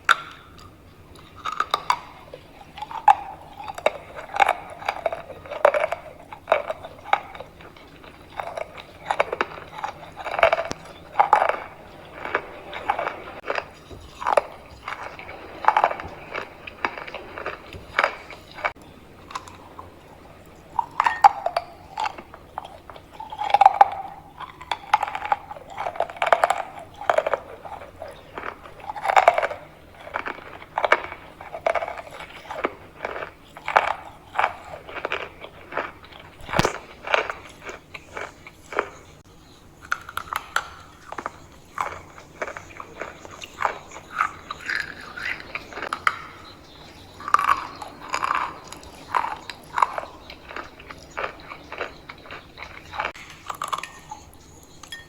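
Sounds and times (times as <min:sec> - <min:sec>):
chalk crunching when chewed: 0:00.0 - 0:55.0.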